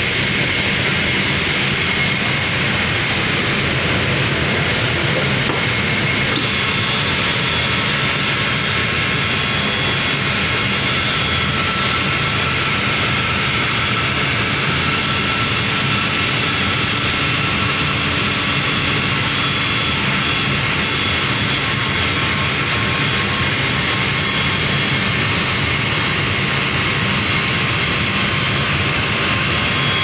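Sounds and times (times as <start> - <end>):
aircraft machinery rush and whine: 0.0 - 30.0.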